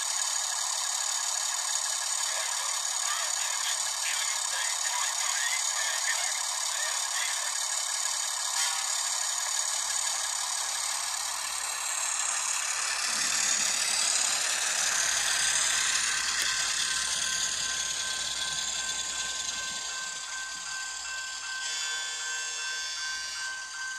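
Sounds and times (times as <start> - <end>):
model diesel engine sound: 0.0 - 23.9
steady ringing tones: 0.0 - 23.9.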